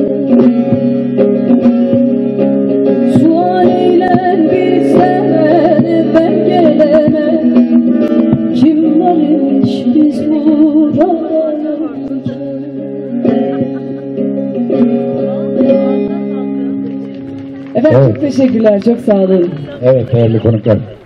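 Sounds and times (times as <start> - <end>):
plucked saz melody: 0.0 - 18.1.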